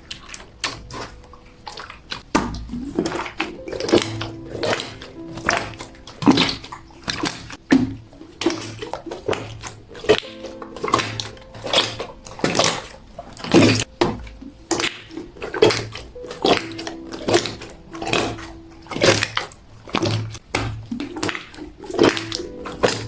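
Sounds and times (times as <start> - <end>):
soft background music: 0.0 - 23.0
wet slime squishing: 0.0 - 23.0.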